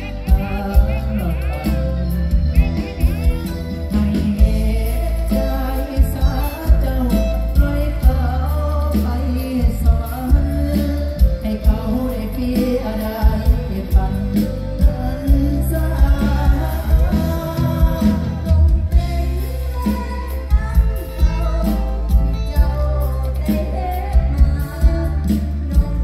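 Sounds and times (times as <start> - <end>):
women singing: 0.0 - 2.6, 3.8 - 26.0
heavy steady drum beat: 0.0 - 26.0.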